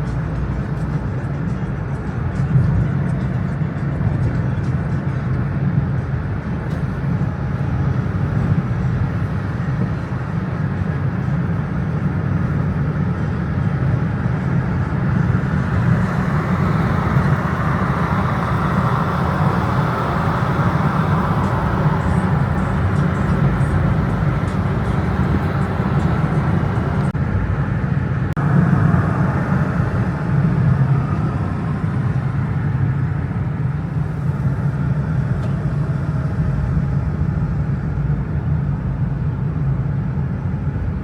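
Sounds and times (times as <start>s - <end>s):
vehicle engine and road noise: 0.0s - 41.0s.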